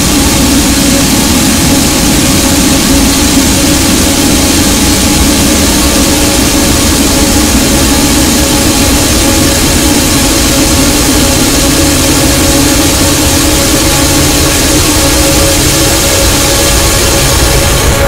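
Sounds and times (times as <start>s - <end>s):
dense distorted noise music: 0.0s - 18.0s.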